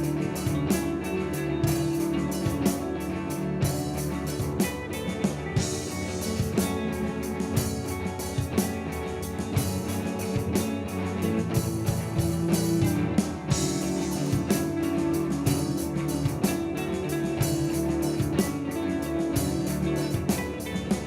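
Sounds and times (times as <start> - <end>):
drum kit: 0.0 - 21.0
electric guitar: 0.0 - 21.0.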